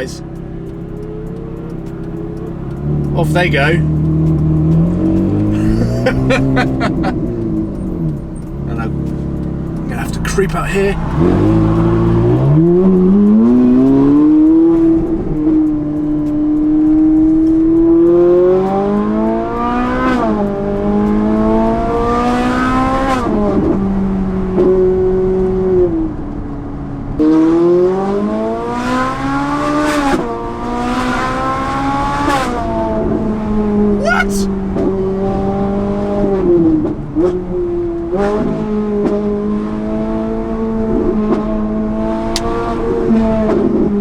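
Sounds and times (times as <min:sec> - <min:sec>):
sports car engine accelerating: 0:00.2 - 0:44.0.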